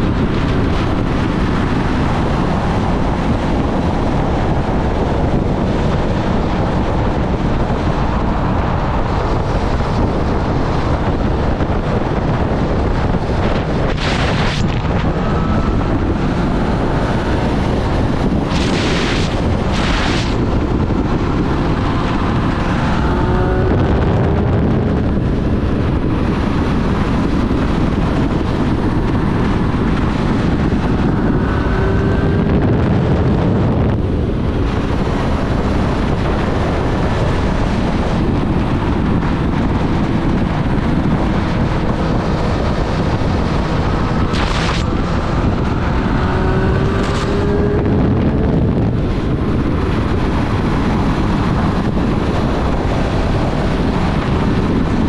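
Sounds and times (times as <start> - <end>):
motorcycle engine accelerating: 0.0 - 55.0
wind noise on microphone: 0.0 - 55.0.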